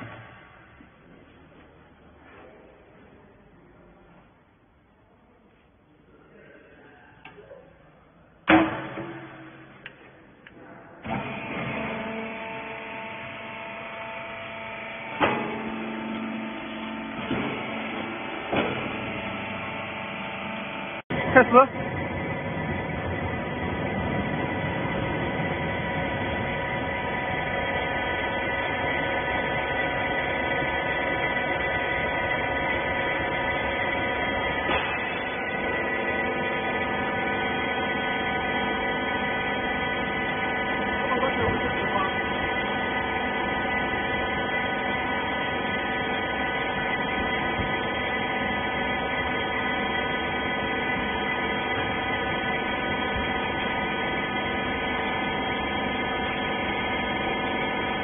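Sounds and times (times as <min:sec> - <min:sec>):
hydraulic baler humming: 0:08.4 - 0:58.0.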